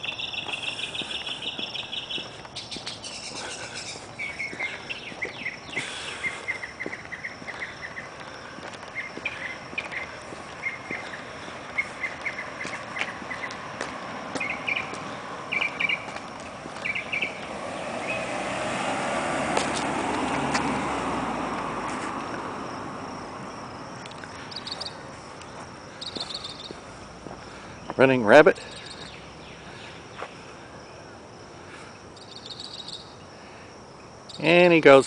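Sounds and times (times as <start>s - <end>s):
passing car: 0.0s - 32.2s
crickets chirping: 0.0s - 35.0s.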